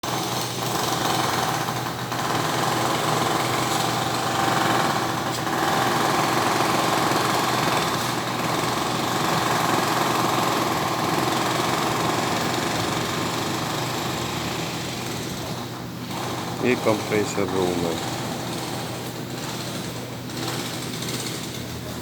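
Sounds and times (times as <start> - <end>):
air compressor droning: 0.0 - 22.0.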